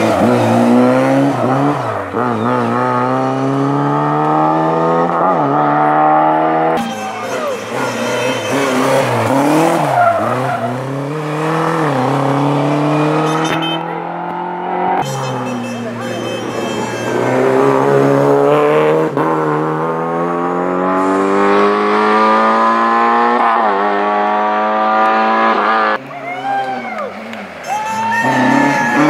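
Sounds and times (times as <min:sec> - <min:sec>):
rally car engine revving: 0:00.0 - 0:26.0, 0:27.2 - 0:29.0.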